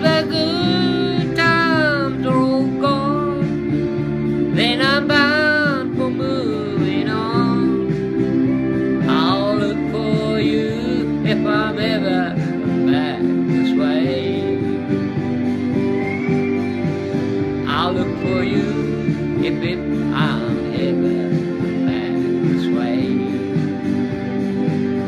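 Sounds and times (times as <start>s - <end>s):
acoustic guitar chords: 0.0s - 25.0s
sung melody: 0.0s - 25.0s.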